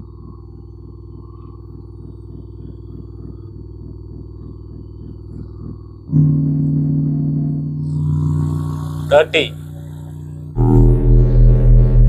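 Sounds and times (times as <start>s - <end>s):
subwoofer pulsing low hum: 0.0s - 12.0s.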